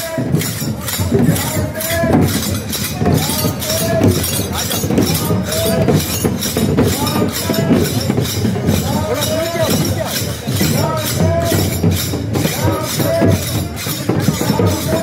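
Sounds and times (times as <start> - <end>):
crowd chanting: 0.0 - 15.0
drum strikes: 0.0 - 15.0.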